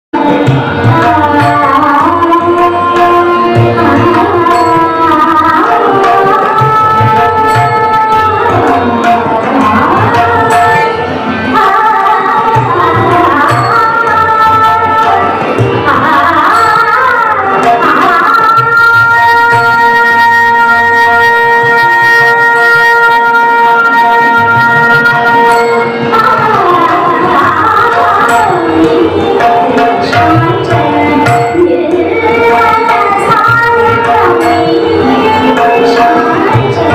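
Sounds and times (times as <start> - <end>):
tabla rhythm: 0.1 - 36.9.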